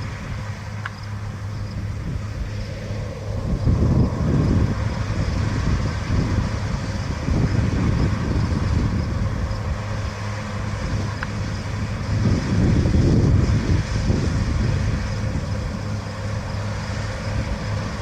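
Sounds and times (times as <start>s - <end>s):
combine harvester engine hum: 0.0s - 18.0s
wind buffeting microphone: 0.0s - 18.0s.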